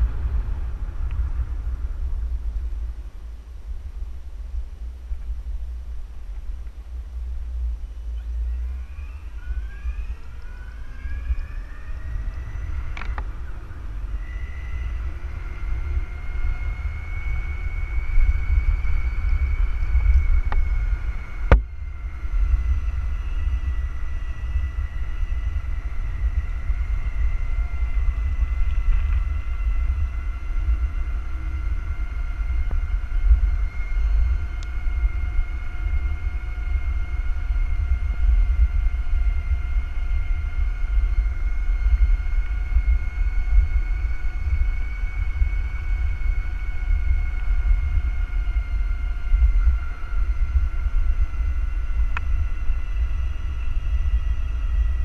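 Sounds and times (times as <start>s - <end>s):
wind and road rumble: 0.0s - 55.0s
electric motor whining: 5.0s - 55.0s.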